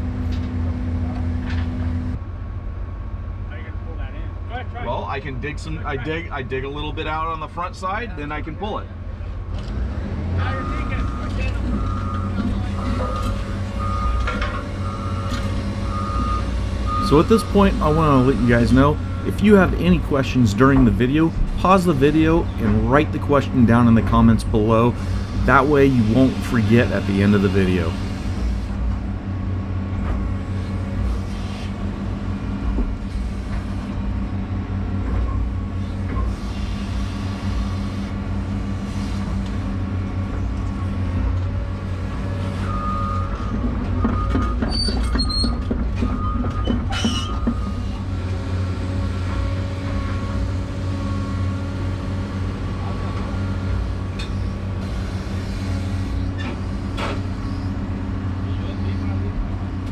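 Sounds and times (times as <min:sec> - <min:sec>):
excavator diesel engine running: 0:09.0 - 0:59.9
hydraulics working: 0:09.1 - 0:59.9.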